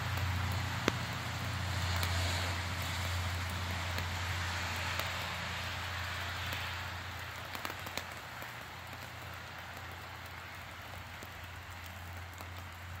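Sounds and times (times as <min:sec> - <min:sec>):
sparks crackling: 0:00.0 - 0:13.0
sparkler fizzing hiss: 0:00.1 - 0:13.0.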